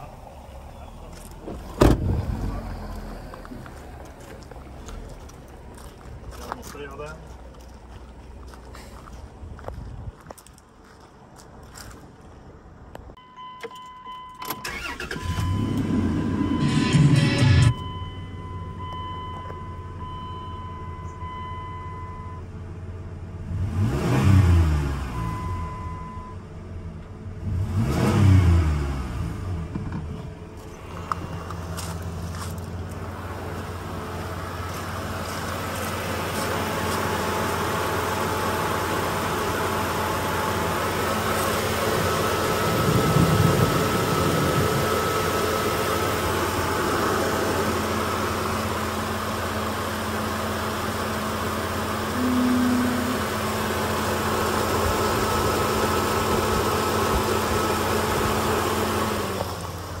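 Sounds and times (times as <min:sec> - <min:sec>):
car engine idling: 0:00.0 - 0:09.7, 0:14.6 - 0:24.0, 0:28.9 - 1:00.0.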